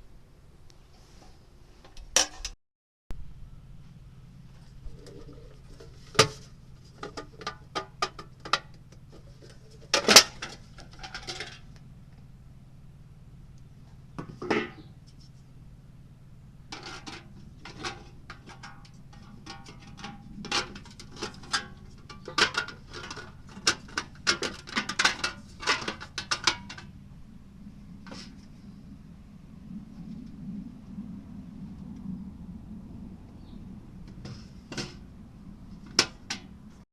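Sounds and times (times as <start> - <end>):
steady low hum: 0.0 - 36.8.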